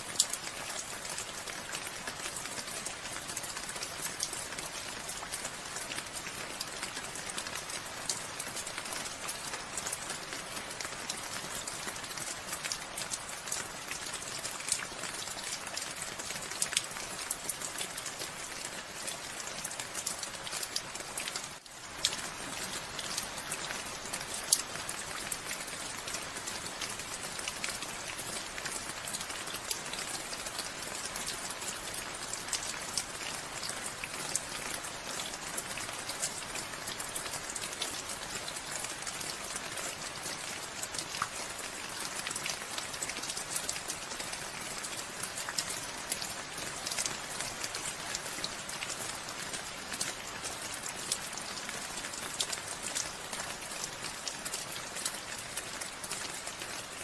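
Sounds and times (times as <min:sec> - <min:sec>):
steady rain with drop ticks: 0:00.0 - 0:57.0.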